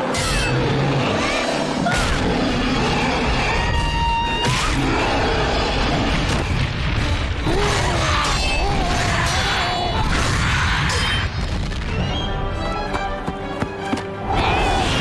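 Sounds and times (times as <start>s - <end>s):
dramatic score: 0.0s - 15.0s.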